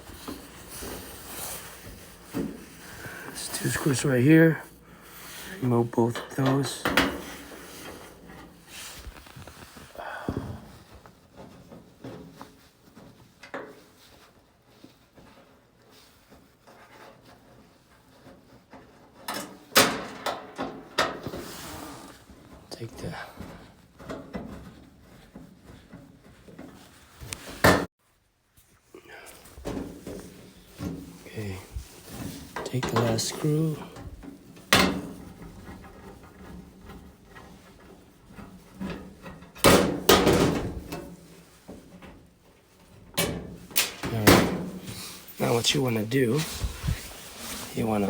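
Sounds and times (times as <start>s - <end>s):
faint handling noise: 0.0s - 16.6s, 21.4s - 48.0s
clatter of knocks and scraping: 0.0s - 27.9s, 29.4s - 48.0s.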